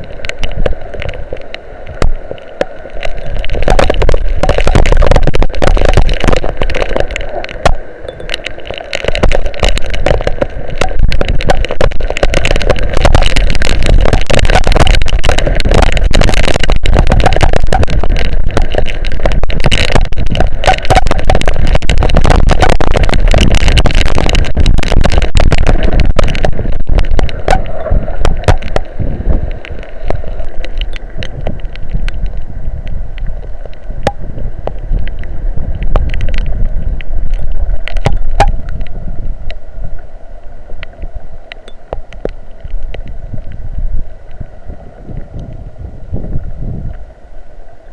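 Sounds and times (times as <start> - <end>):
rain ticking on microphone: 0.0 - 47.9
strong wind buffeting microphone: 3.3 - 8.4, 9.1 - 39.6, 42.6 - 47.1.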